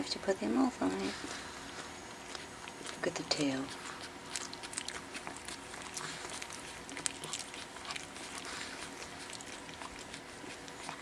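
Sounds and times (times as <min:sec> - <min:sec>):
puppies tussling on blanket: 0:00.8 - 0:11.0.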